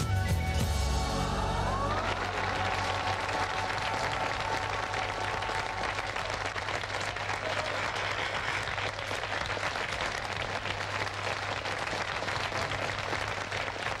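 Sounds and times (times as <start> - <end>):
audience applauding: 1.2 - 14.0.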